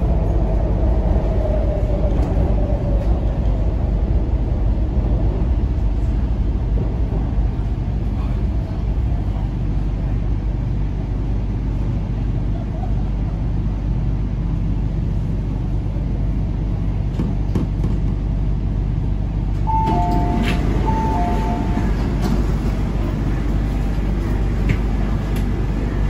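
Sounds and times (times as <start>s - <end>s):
train rumbling in tunnel: 0.0s - 26.0s.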